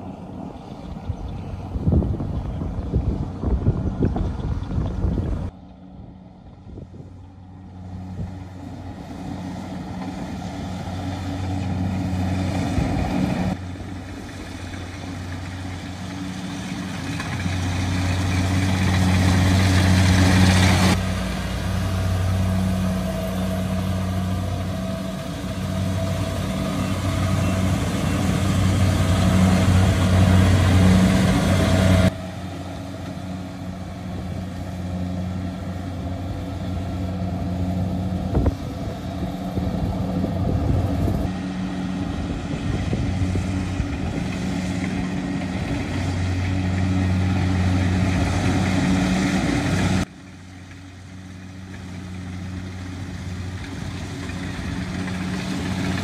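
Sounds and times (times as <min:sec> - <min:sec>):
combine harvester engine hum: 0:00.0 - 0:56.0.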